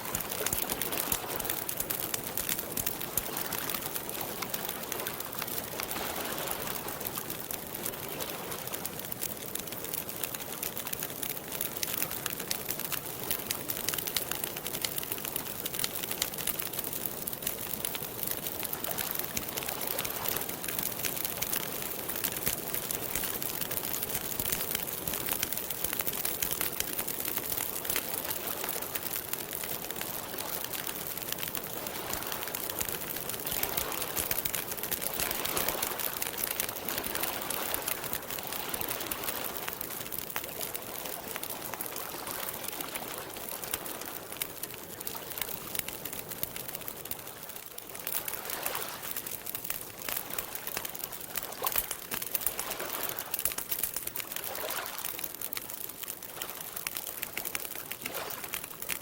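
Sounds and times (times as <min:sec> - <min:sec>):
campfire crackling: 0:00.0 - 0:59.0.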